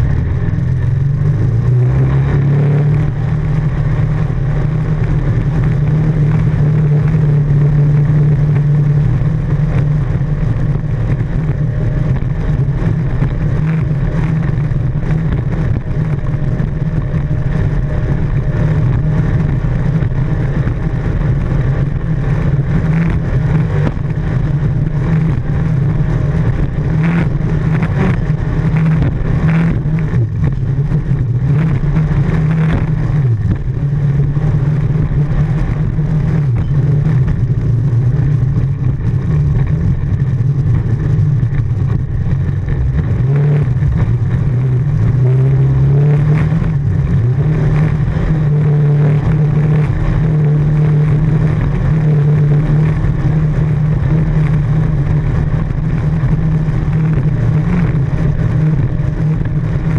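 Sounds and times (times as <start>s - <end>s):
boat engine at high speed: 0.0s - 59.9s.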